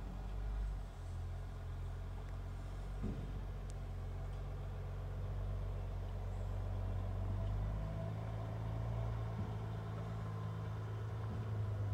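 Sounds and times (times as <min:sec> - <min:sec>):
diesel engine humming: 0:00.0 - 0:11.9.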